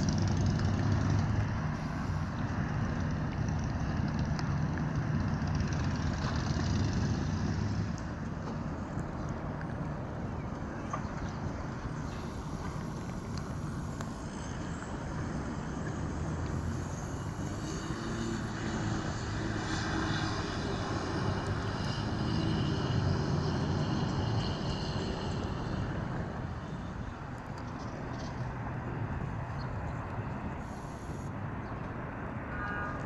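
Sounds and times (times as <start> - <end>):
low engine drone: 0.0 - 33.0
wind on microphone: 0.0 - 33.0.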